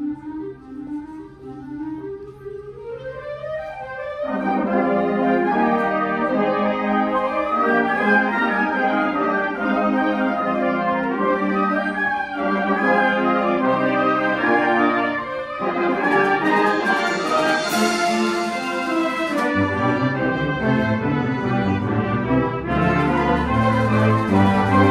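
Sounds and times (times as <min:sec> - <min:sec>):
wind band playing held chords: 0:00.0 - 0:24.9.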